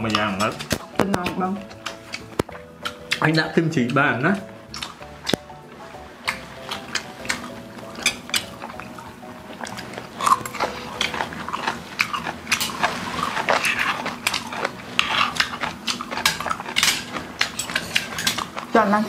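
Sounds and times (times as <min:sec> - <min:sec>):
utensils clicking on steel bowls: 0:00.0 - 0:05.5, 0:06.2 - 0:09.0, 0:09.6 - 0:19.0
chewing and biting food: 0:00.0 - 0:05.6, 0:06.2 - 0:18.8.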